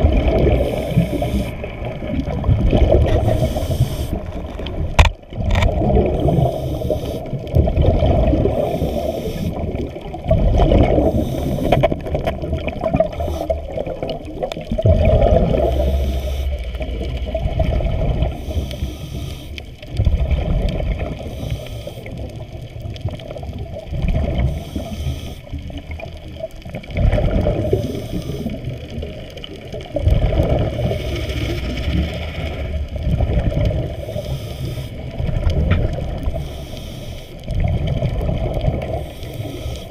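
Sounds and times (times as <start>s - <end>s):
underwater rushing and gurgling: 0.0s - 39.9s.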